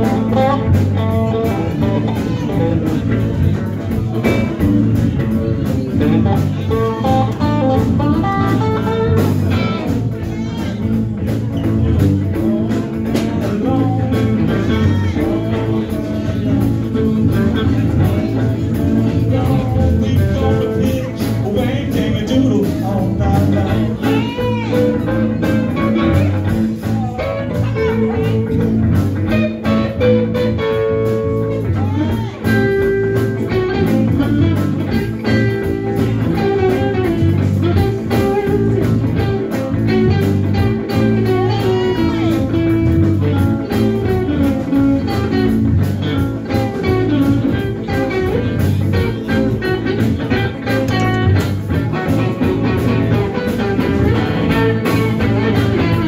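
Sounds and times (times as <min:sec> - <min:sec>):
lead guitar bending notes: 0:00.0 - 0:56.0
live blues band playing: 0:00.0 - 0:56.0.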